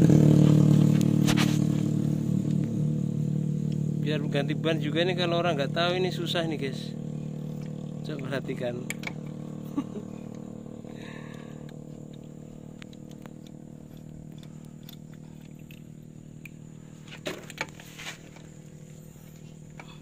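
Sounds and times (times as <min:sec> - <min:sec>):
engine idling hum: 0:00.0 - 0:20.0.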